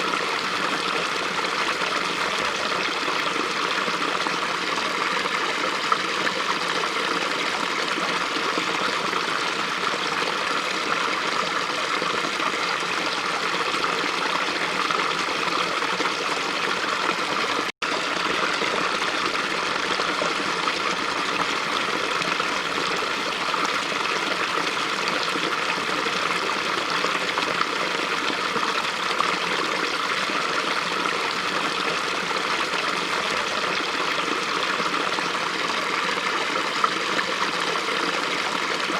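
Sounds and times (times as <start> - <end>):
small stream running water: 0.0 - 38.9.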